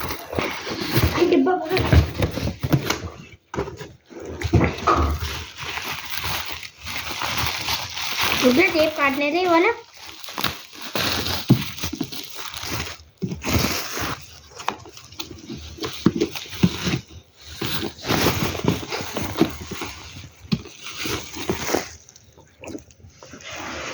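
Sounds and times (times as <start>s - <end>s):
packaging rustling and crinkling: 0.0s - 23.9s.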